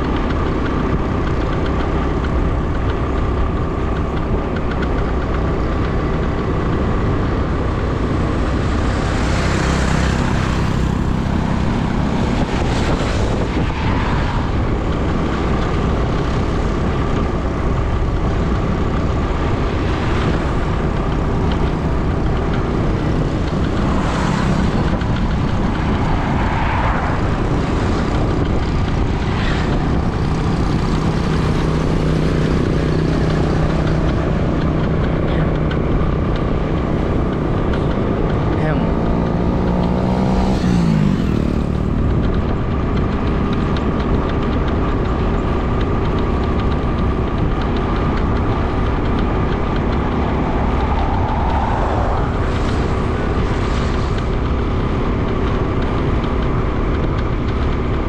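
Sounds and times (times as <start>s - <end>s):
vehicle engine and road noise: 0.0s - 58.0s
wind noise on microphone: 0.0s - 58.0s.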